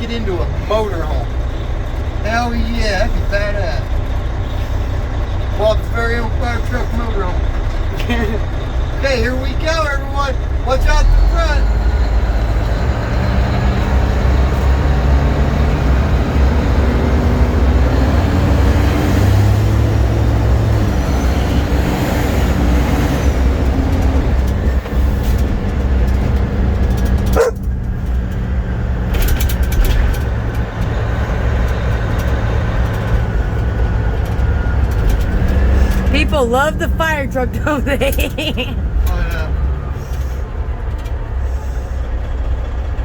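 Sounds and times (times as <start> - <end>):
fire truck engine running: 0.0 - 43.0.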